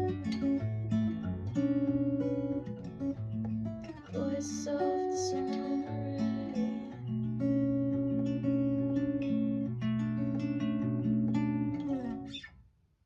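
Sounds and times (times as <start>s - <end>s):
guitar picking ringing notes: 0.0s - 12.5s.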